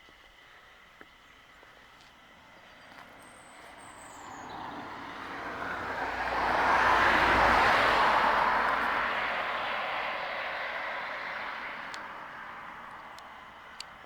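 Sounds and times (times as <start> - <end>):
vehicle approaching: 2.2 - 14.0.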